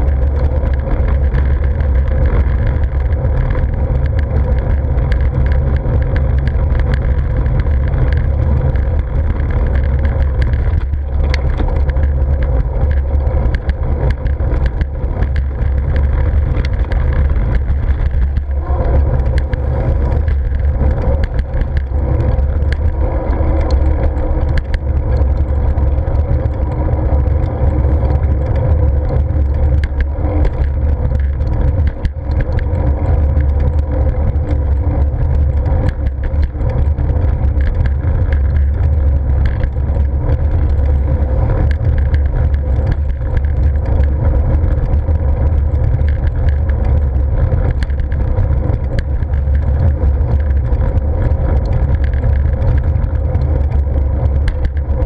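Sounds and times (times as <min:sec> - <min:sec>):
bicycle tyre road noise: 0:00.0 - 0:55.0
wind rushing over microphone: 0:00.0 - 0:55.0.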